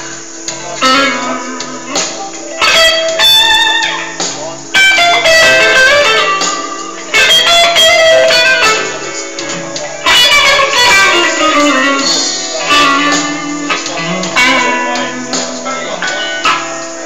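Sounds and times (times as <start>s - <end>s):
electric guitar blues: 0.0s - 17.0s.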